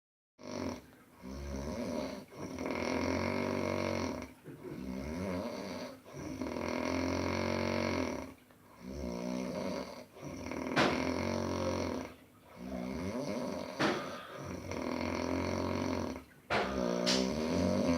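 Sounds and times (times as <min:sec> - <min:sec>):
baby snoring: 0:00.4 - 0:17.9.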